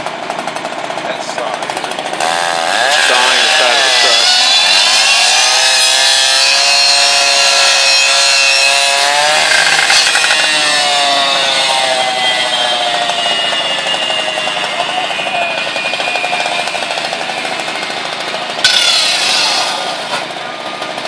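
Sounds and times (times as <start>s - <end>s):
extraction saw motor whine: 0.6s - 21.0s.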